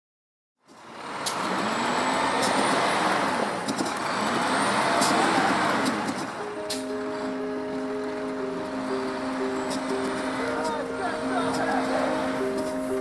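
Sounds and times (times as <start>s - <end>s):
motor vehicle rushing: 0.7s - 13.0s.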